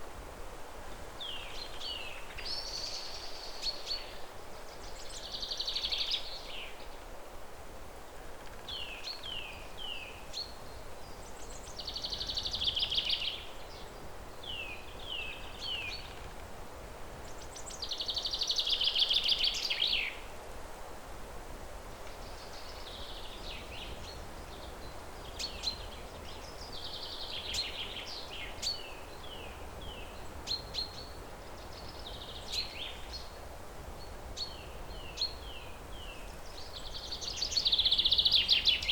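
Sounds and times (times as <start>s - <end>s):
songbirds singing: 0.9s - 7.0s, 8.2s - 20.3s, 22.0s - 38.9s.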